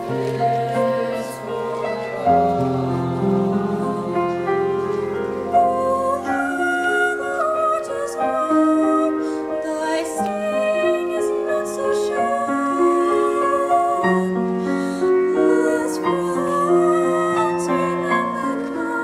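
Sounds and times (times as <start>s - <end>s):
choir singing: 0.0s - 19.0s
piano accompaniment: 0.0s - 19.0s.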